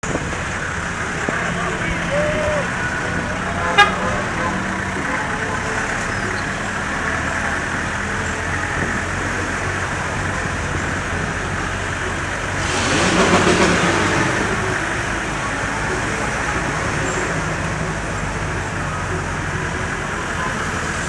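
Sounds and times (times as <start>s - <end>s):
rushing noise: 0.0s - 21.0s
tyre and road noise: 0.0s - 21.0s
vehicle engine running: 0.0s - 21.0s.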